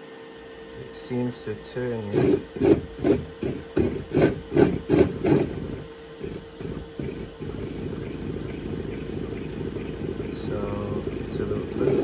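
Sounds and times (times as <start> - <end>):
electric motor whining: 2.0 - 12.0.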